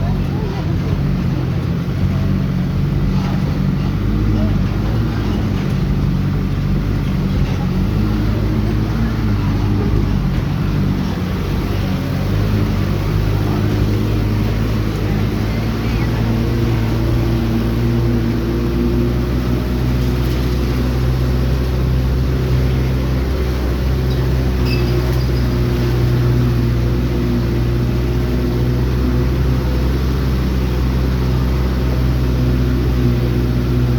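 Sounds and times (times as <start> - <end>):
road noise: 0.0 - 33.9
vehicle engine running: 0.0 - 33.9.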